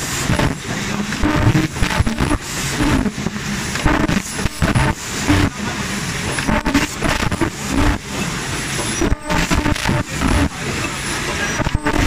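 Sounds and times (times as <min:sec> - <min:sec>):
machine bursts and low thumps: 0:00.0 - 0:10.6, 0:11.6 - 0:12.0
production line mechanical noise: 0:00.0 - 0:12.0.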